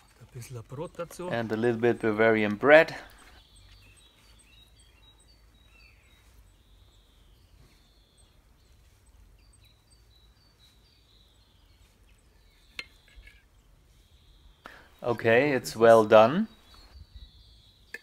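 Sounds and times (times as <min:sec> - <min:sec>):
faint birdsong: 0:00.0 - 0:18.0.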